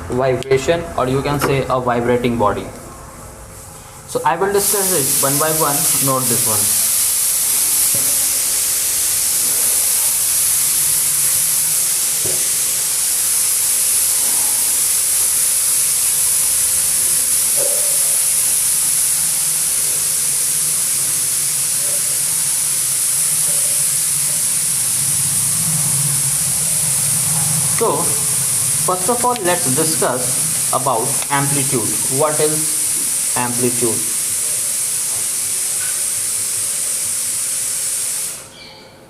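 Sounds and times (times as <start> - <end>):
steady loud hiss: 0.0 - 38.7.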